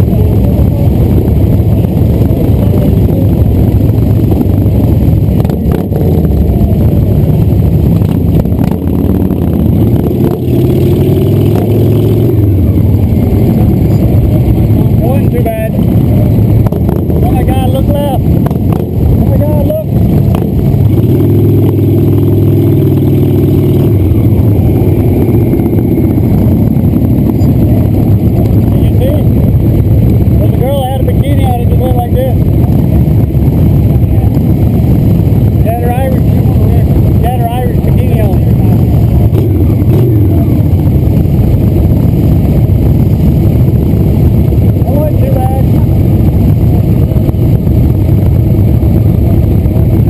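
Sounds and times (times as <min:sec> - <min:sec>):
motorcycle engines idling: 0:00.0 - 0:50.0.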